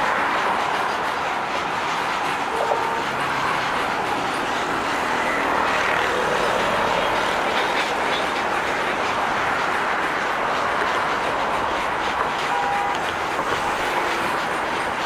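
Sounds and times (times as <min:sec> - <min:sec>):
freight train on track: 0:00.0 - 0:15.0.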